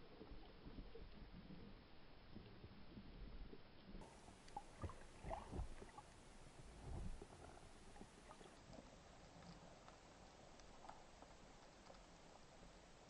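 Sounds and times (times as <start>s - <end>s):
small underwater clicks and knocks: 0.0s - 13.0s
underwater rumble of moving water: 0.0s - 13.0s.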